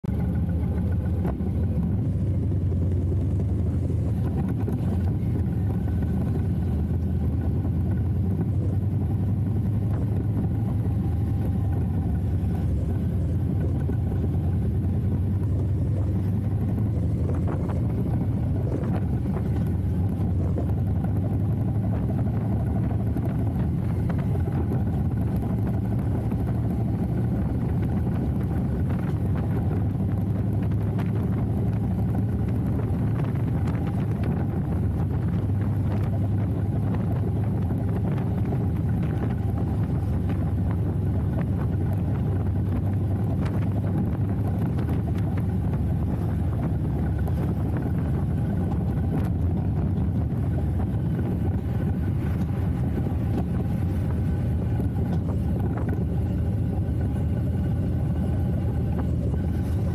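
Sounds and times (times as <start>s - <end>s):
motorcycle engine with deep exhaust: 0.0s - 59.9s.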